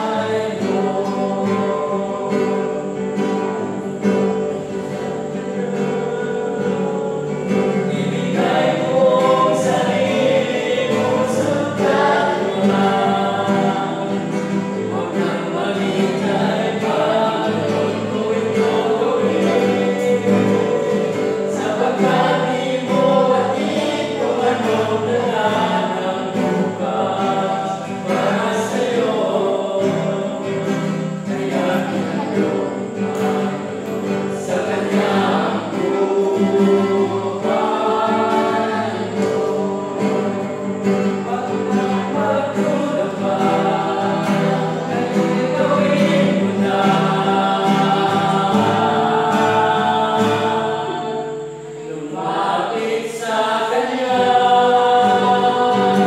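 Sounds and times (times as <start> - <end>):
male vocal quartet singing: 0.0 - 56.0
strummed acoustic guitar: 0.0 - 56.0.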